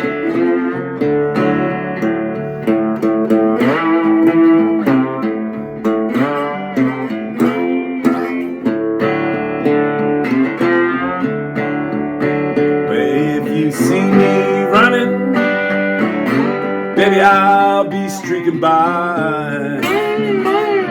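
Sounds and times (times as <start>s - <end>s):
slide guitar playing blues: 0.0s - 20.9s.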